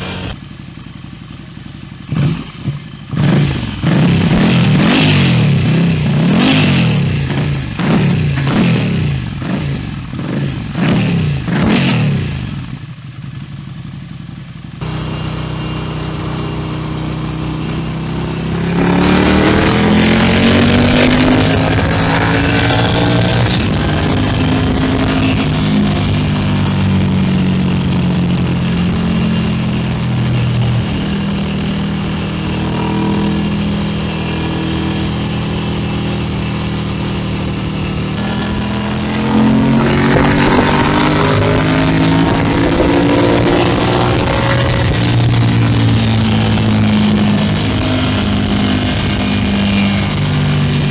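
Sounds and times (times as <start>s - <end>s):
motorcycle engine revving and idling: 0.0s - 50.9s.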